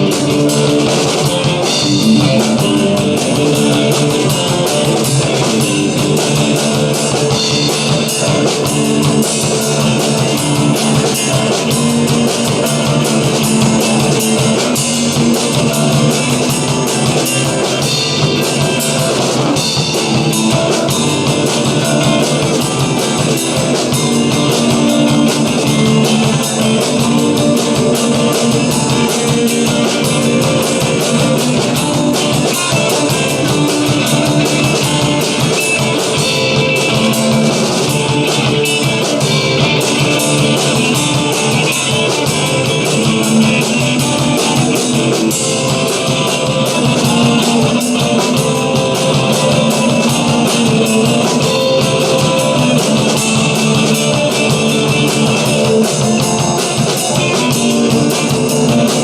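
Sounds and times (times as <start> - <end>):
rock music with guitar and drums: 0.0 - 59.0.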